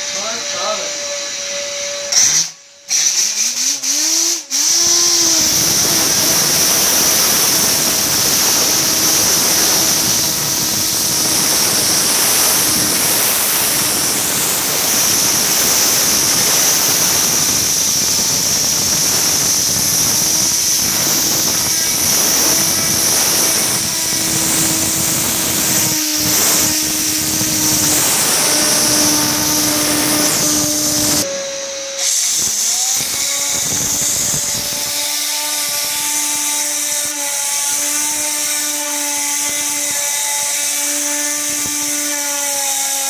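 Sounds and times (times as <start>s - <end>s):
cleaning jet hissing: 2.1s - 36.7s.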